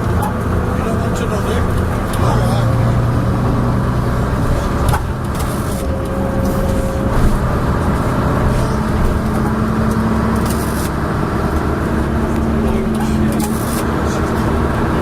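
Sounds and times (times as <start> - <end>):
bus body clanking and rattling: 0.0 - 15.0
diesel engine humming: 0.0 - 15.0.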